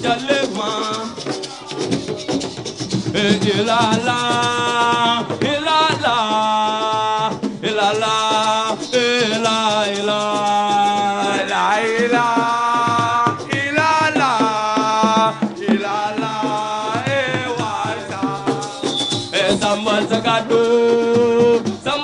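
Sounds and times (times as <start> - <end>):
person singing: 0.0 - 22.0
shaken rattle rhythm: 0.0 - 22.0.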